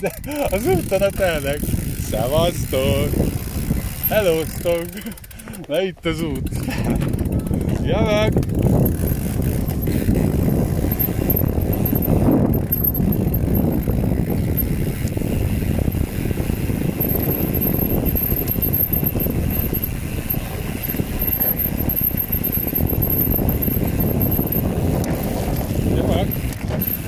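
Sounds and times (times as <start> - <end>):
bicycle tyre noise: 0.0 - 27.0
wind buffeting microphone: 0.0 - 27.0.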